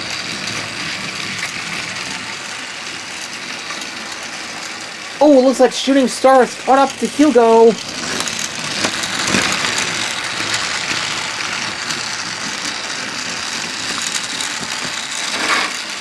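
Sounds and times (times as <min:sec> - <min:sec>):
toy train motors whirring: 0:00.0 - 0:16.0
wheels clicking over track joints: 0:00.0 - 0:16.0.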